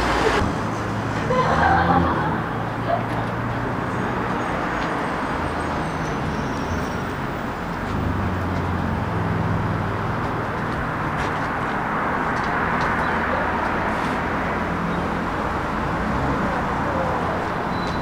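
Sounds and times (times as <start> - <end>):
city traffic road noise: 0.0 - 18.0.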